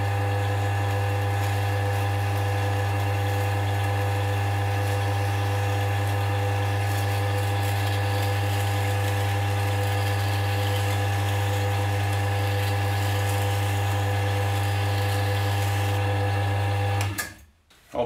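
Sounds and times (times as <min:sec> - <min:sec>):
drill press motor hum: 0:00.0 - 0:17.4.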